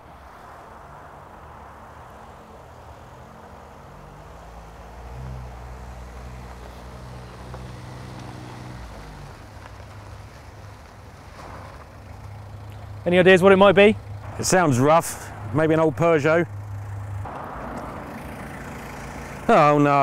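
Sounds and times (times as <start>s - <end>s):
van engine driving up: 0.0s - 20.0s.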